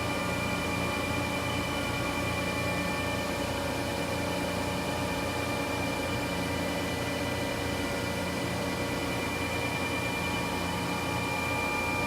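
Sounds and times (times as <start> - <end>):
boring mill mechanical hum: 0.0 - 12.0.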